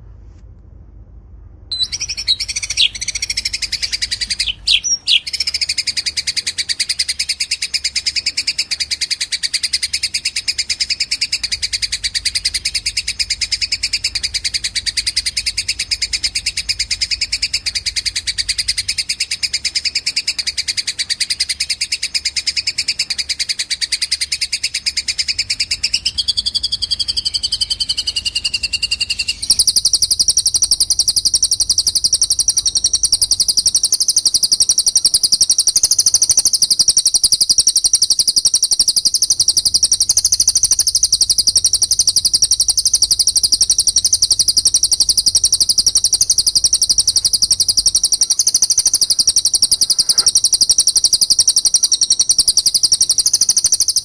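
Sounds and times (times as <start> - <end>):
bird chatter: 1.7 - 54.0
fast trill of bird chirps: 1.7 - 54.0.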